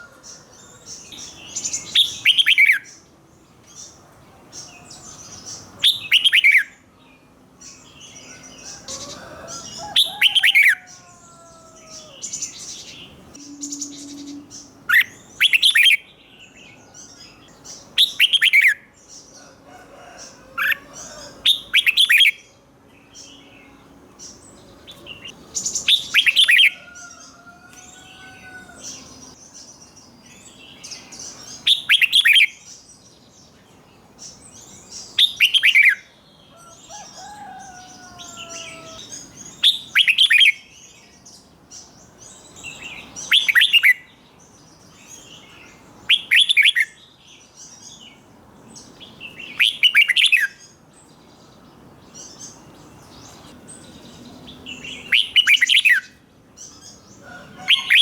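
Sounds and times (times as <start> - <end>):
bird singing falling phrases: 0.0 - 58.0.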